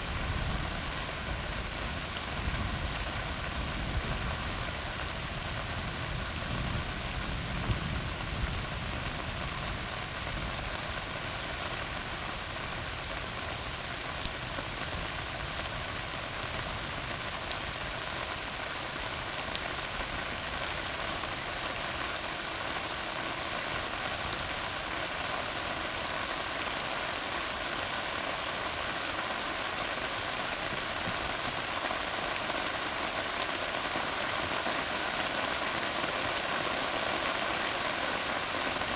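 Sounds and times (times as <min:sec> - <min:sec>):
rain falling on road: 0:00.0 - 0:38.9.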